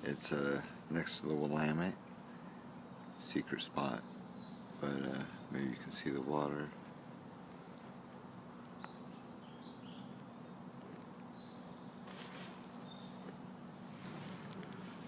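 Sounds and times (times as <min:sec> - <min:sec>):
birds chirping: 0:00.0 - 0:15.0
outdoor background hum: 0:00.0 - 0:15.0.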